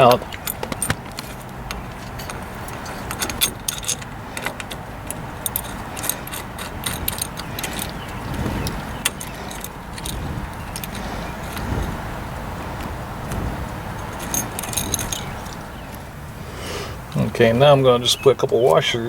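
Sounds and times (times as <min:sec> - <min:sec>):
small metal parts clinking: 0:00.0 - 0:12.1, 0:12.7 - 0:16.0.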